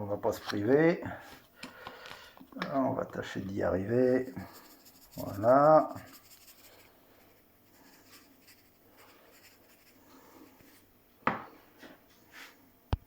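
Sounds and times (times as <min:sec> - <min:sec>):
scratching handling noises: 0:00.2 - 0:10.9.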